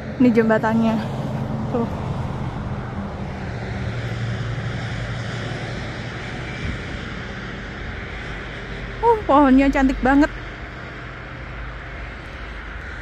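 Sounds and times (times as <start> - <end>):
distant engine drone: 0.0 - 13.0.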